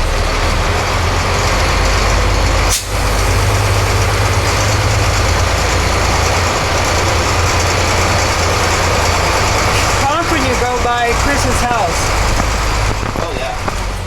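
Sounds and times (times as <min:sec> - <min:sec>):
bus engine pulling away: 0:00.0 - 0:14.0.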